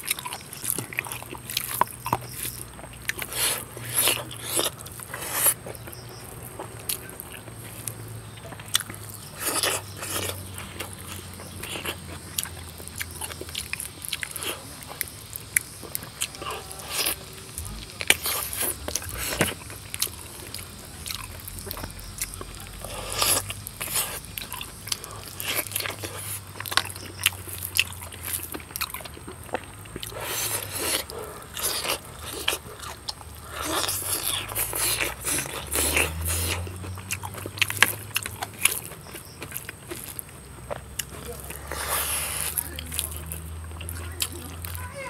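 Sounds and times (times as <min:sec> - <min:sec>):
person biting and chewing: 0:00.0 - 0:44.8.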